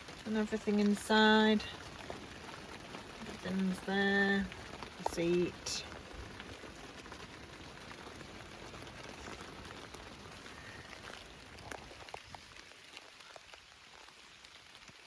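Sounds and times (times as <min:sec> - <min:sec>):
individual raindrops ticking: 0:00.0 - 0:15.0
steady rain hiss: 0:00.0 - 0:15.0.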